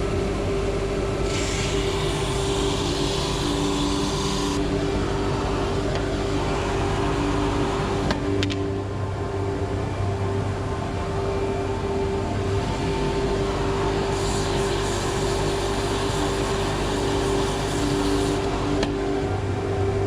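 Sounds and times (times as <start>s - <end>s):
woodworking machine motor hum: 0.0s - 20.0s.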